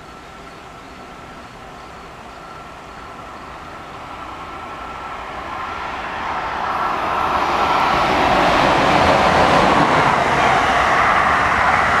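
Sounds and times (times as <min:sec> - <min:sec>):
steady high whine: 0:00.0 - 0:12.0
train approaching at high speed: 0:00.0 - 0:12.0.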